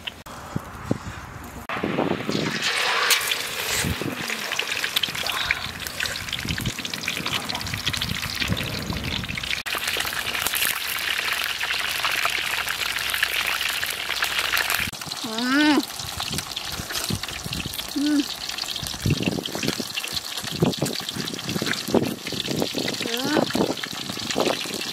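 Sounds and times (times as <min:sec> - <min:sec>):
fish sizzling in hot oil: 0:01.8 - 0:24.9.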